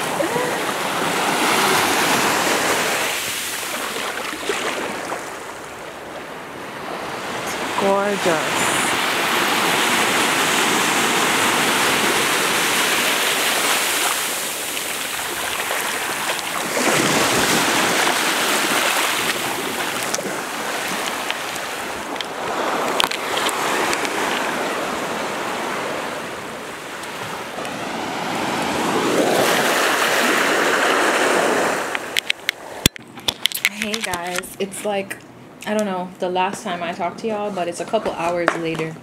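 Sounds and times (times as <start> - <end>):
waves lapping on beach: 0.0 - 33.8.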